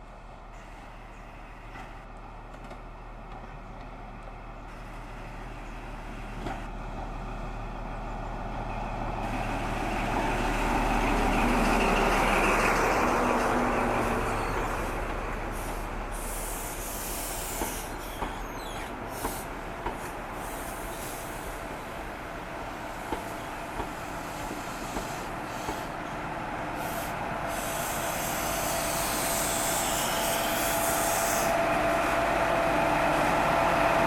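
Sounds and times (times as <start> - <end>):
train passing by: 0.0 - 34.0.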